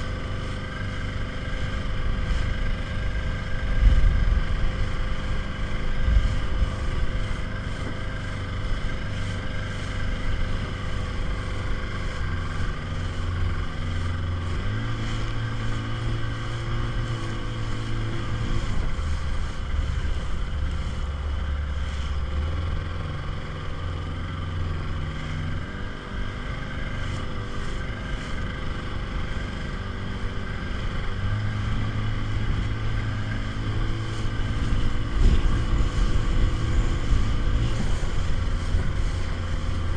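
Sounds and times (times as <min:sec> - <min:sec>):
outboard engine running: 0:00.0 - 0:39.9.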